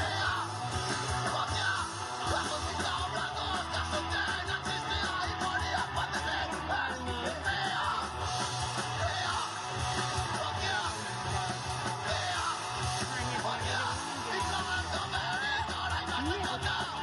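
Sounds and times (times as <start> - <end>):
person singing: 0.0 - 8.2, 10.2 - 11.2, 12.0 - 17.0
rock music with guitar: 0.0 - 17.0.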